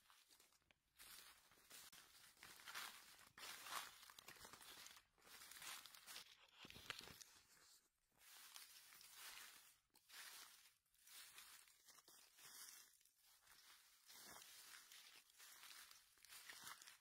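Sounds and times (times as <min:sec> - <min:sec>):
dry leaves rustling and crunching: 0:00.0 - 0:07.3, 0:08.2 - 0:17.0.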